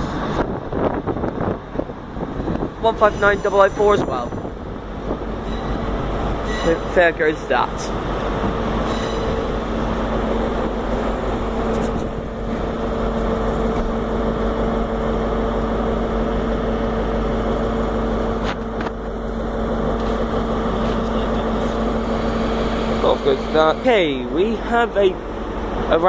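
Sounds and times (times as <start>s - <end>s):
diesel train engine idling: 0.0s - 26.0s.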